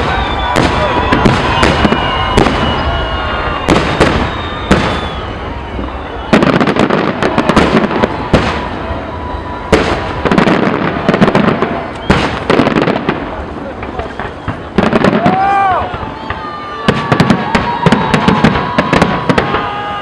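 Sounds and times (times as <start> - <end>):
rapid crackling fireworks pops: 0.0 - 20.0.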